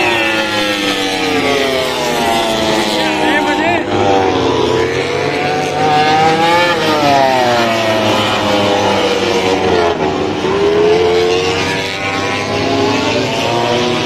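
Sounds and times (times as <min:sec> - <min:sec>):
racing motorcycles revving past: 0:00.0 - 0:14.0.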